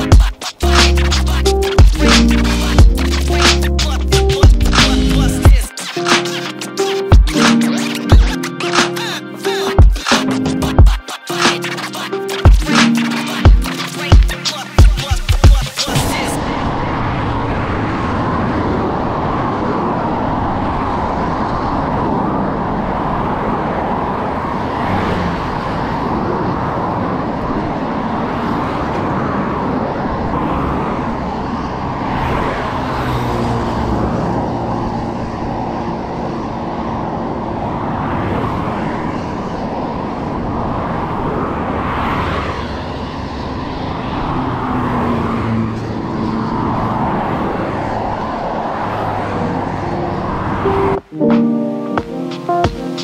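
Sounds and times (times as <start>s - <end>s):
highway traffic passing: 0.0s - 53.0s.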